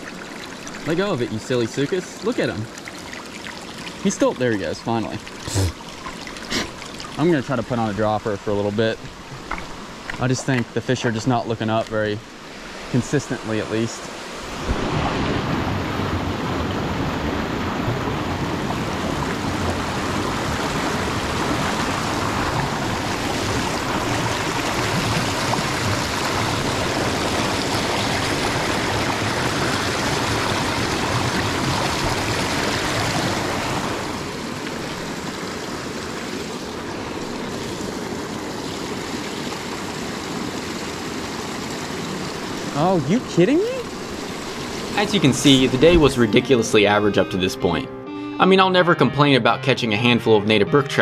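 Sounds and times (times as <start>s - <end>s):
creek rushing over rocks: 0.0s - 46.8s.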